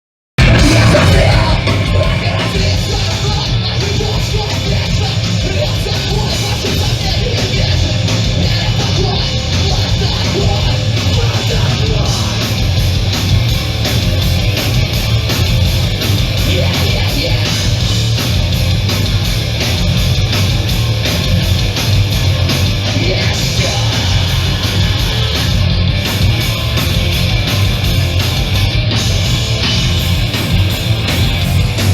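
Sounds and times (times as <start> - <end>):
punk band playing distorted guitars: 0.4 - 31.9.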